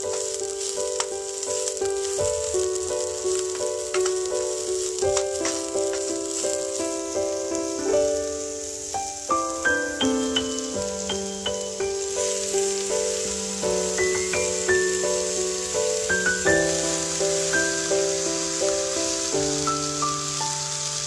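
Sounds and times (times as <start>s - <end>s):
background music melody: 0.0s - 21.0s
onions sizzling in hot oil: 0.0s - 21.0s.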